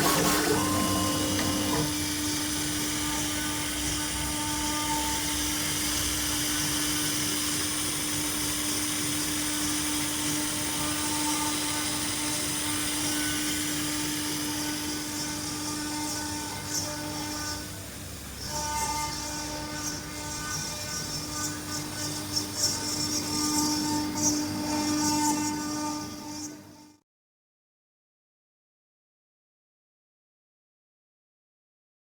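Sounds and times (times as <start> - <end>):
machine humming with high hiss: 0.0 - 26.2.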